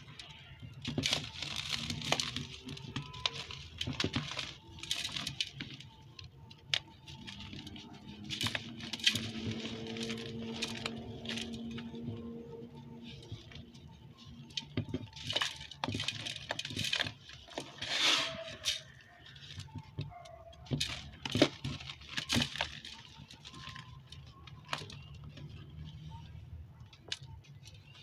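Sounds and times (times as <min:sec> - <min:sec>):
dry chunks crumbling: 0:00.0 - 0:26.2.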